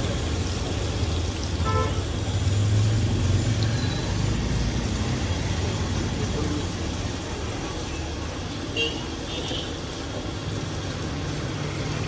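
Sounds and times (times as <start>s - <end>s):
street background rumble: 0.0s - 12.0s.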